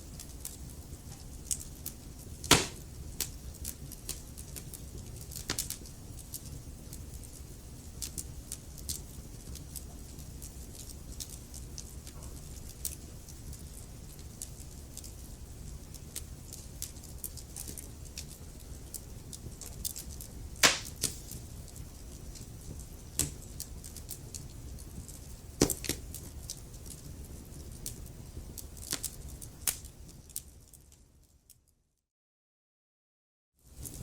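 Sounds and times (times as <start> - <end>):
wood fire crackling and popping: 0.0 - 31.6, 33.7 - 34.0.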